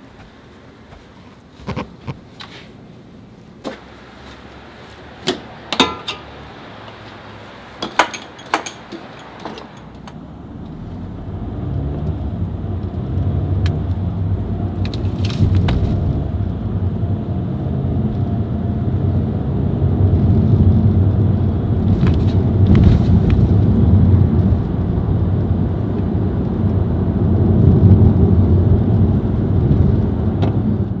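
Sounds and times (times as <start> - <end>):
car engine and road rumble: 2.8 - 31.0.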